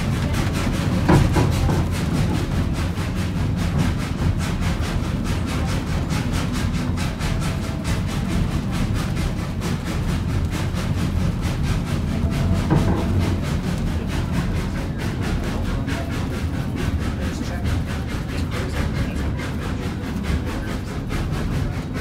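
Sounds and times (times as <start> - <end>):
steam locomotive chuffing: 0.0 - 22.0
train rumble: 0.0 - 22.0.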